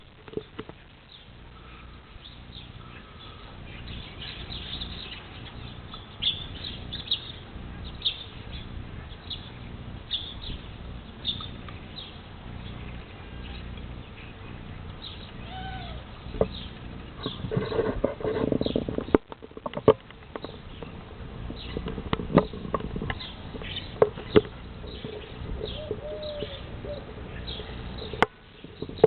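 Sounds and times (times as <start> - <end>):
low steady rumble: 0.0 - 29.0
starlings squabbling: 0.8 - 19.2, 20.4 - 29.0.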